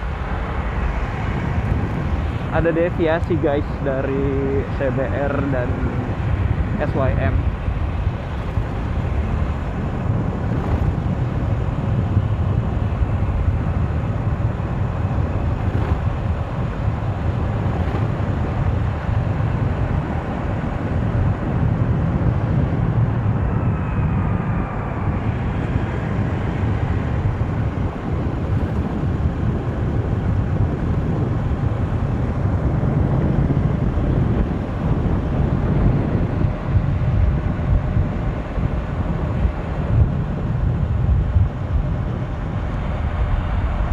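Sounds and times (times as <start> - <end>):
wind rush on microphone: 0.0 - 43.9.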